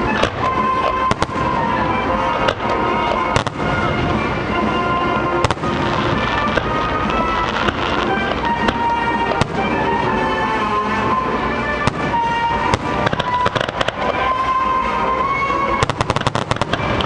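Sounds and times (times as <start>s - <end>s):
fireworks bursting: 0.0s - 17.0s
music playing: 0.0s - 17.0s.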